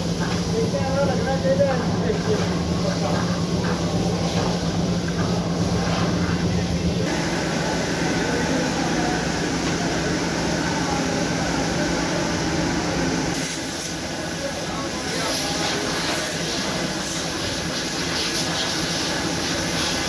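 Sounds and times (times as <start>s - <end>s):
workshop machinery hum: 0.0s - 20.0s.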